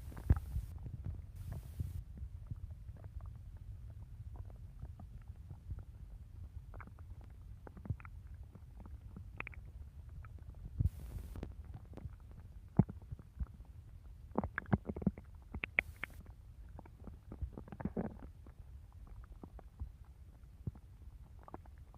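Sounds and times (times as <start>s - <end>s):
stomach growling: 0.0s - 21.9s.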